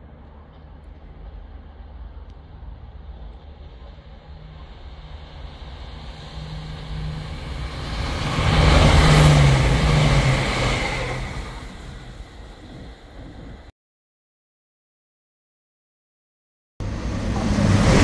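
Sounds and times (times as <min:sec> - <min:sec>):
diesel train engine: 0:00.0 - 0:13.7, 0:16.8 - 0:18.0
train wheel and rail noise: 0:00.0 - 0:13.7, 0:16.8 - 0:18.0.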